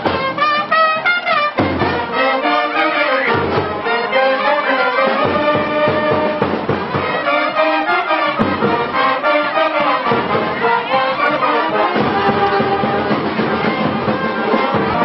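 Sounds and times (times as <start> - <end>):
brass band playing lively tune: 0.0 - 15.0.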